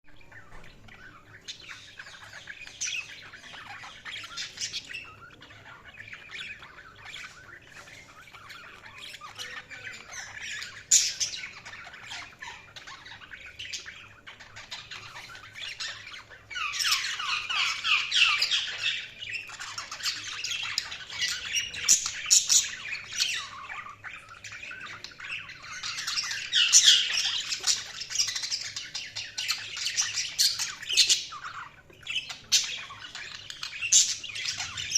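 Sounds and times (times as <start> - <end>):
budgies chattering and warbling: 0.1 - 34.9.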